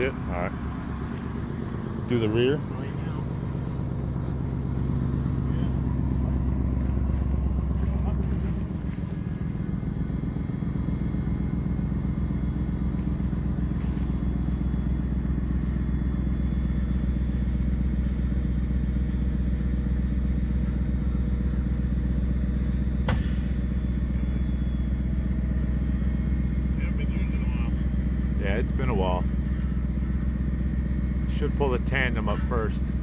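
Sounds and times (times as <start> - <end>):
motor droning: 0.0 - 33.0.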